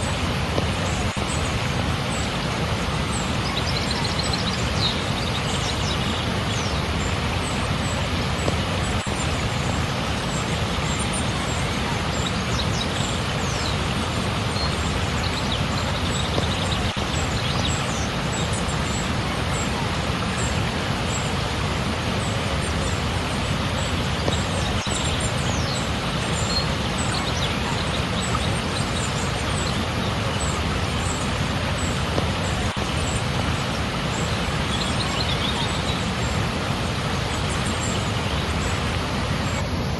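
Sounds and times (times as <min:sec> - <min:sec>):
small birds chirping: 0:00.0 - 0:39.7
water rushing: 0:00.0 - 0:39.9.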